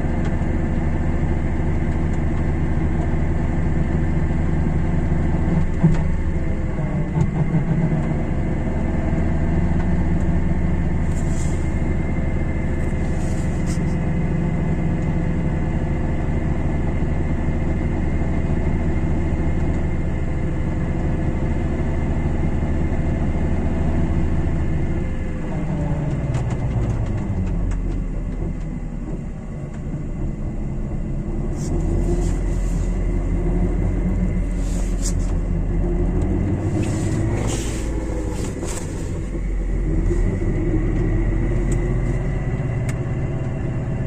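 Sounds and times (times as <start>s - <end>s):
car engine and wheel hum: 0.0s - 44.0s.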